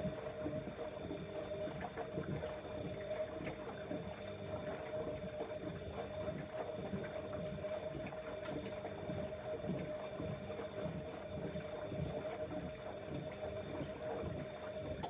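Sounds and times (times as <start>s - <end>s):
washing machine whine: 0.0s - 15.0s.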